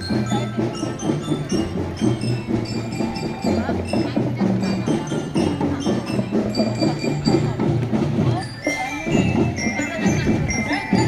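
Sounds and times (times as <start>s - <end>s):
bell lyre melody: 0.0s - 11.0s
marching drums: 0.0s - 11.0s.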